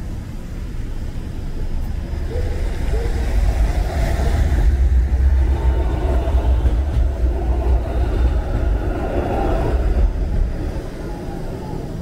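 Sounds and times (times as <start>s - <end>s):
car traffic on wet road: 0.0s - 12.0s
streetcar rumbling on rails: 0.0s - 12.0s.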